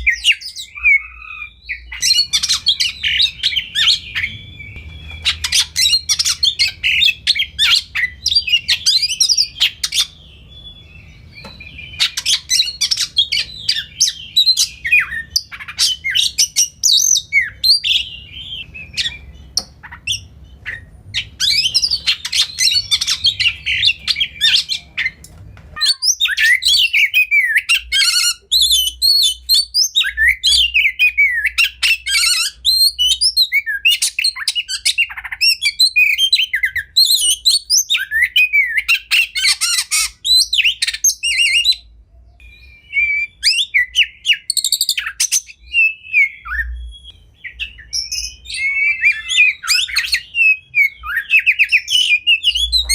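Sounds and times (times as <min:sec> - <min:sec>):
bird singing: 0:00.0 - 0:52.9
low background hum: 0:00.0 - 0:52.9.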